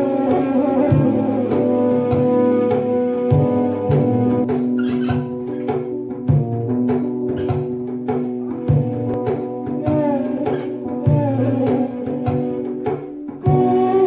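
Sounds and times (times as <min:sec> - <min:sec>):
instrumental music with held notes: 0:00.0 - 0:14.0
drum beat: 0:00.4 - 0:14.0.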